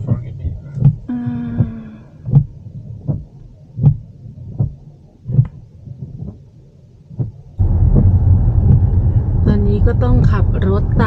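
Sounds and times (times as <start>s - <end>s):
soft low thumps inside car: 0.0s - 6.5s, 7.1s - 11.0s
car driving on road rumble: 0.0s - 11.0s.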